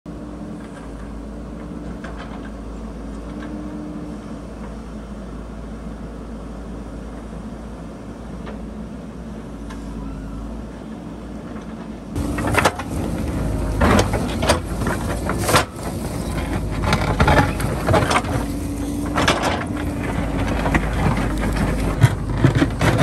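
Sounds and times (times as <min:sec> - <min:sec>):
diesel engine running: 0:00.1 - 0:23.0.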